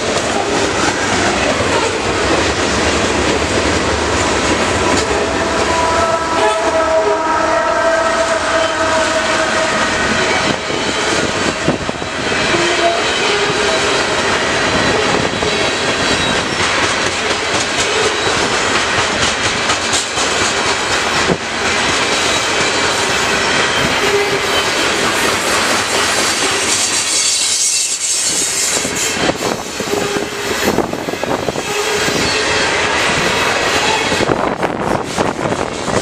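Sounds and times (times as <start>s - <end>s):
locomotive steady tones: 0.0s - 36.0s
train wheels rumbling and clacking: 0.0s - 36.0s.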